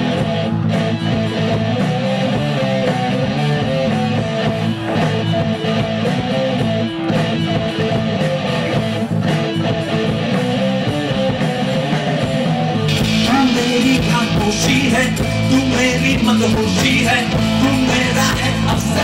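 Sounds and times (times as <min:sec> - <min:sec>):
bass guitar: 0:00.0 - 0:19.0
strummed electric guitars: 0:00.0 - 0:19.0.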